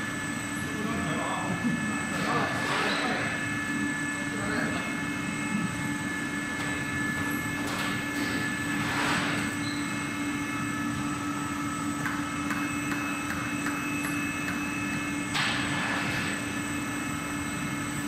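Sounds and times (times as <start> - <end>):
machine hum with high whines: 0.0 - 18.0.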